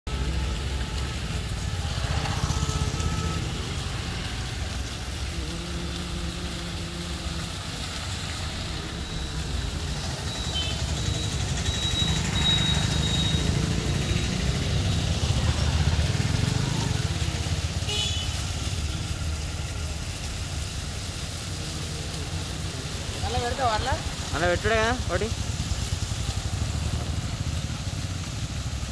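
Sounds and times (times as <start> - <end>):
road traffic rumble: 0.0 - 28.9
motorcycle engine: 0.1 - 20.2, 21.4 - 28.9.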